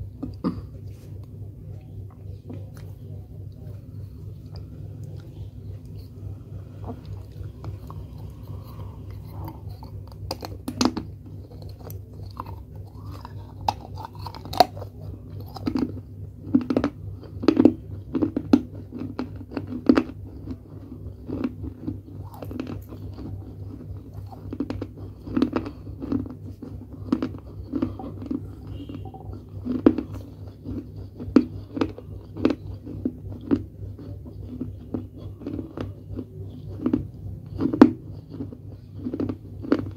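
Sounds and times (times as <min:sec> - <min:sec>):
crunching and chewing clay: 0:00.0 - 0:39.9
steady low hum: 0:00.0 - 0:39.9.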